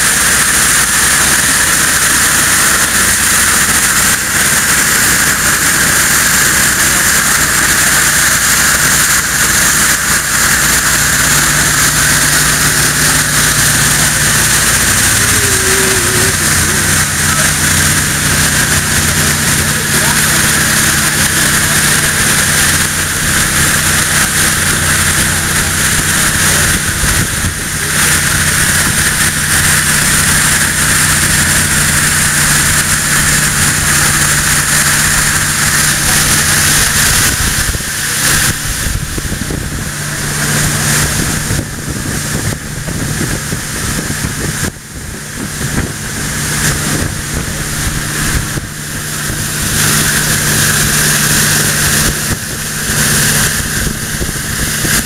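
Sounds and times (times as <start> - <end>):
boat engine running: 0.0 - 55.0
rushing water: 0.0 - 55.0
wind: 0.0 - 55.0.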